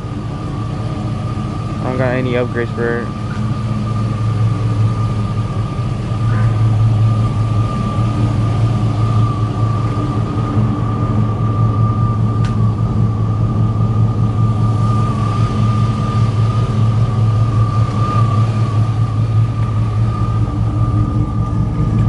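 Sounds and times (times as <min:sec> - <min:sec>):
vehicle engine humming with whine: 0:00.0 - 0:22.0.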